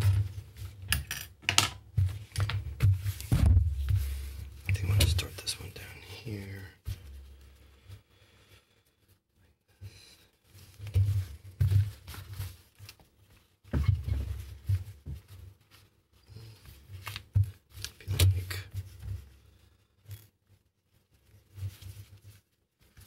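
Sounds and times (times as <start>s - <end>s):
webbing being handled: 0.0s - 8.2s, 9.0s - 23.0s.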